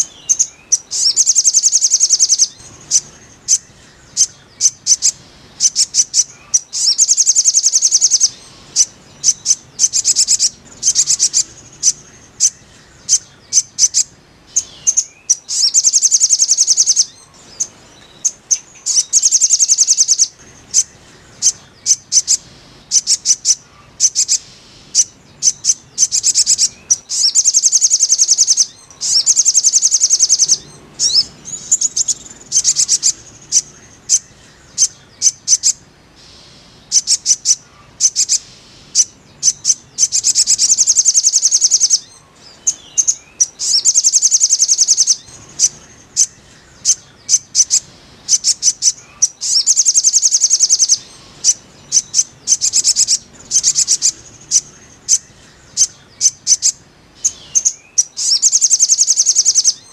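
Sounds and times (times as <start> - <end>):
bird song high chip notes: 0.0 - 59.9.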